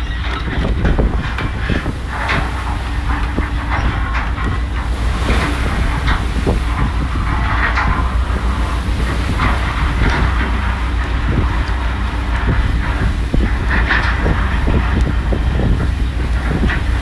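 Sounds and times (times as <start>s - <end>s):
deck gear knocks and rattles: 0.0s - 17.0s
diesel engine drone: 0.0s - 17.0s
water churning along hull: 0.0s - 17.0s.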